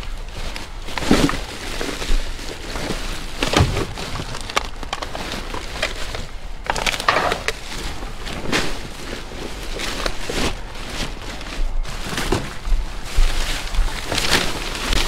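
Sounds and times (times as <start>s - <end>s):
trash crackling and rustling: 0.0s - 15.0s.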